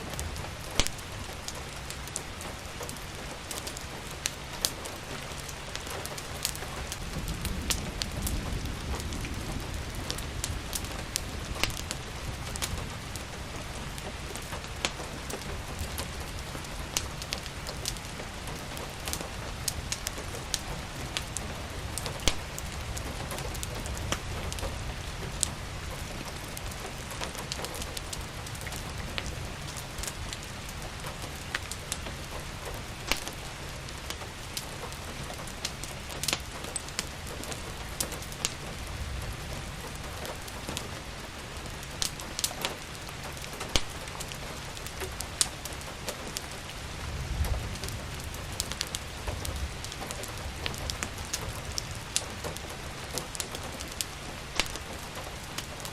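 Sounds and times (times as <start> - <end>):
steady rain: 0.0 - 55.9
wood fire crackling and popping: 0.0 - 55.9.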